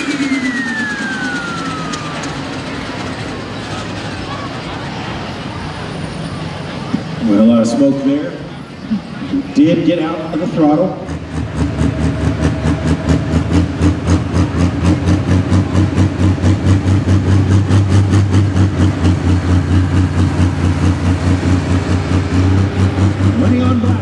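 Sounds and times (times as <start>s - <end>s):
loud diesel engine pulsing: 0.0s - 24.0s.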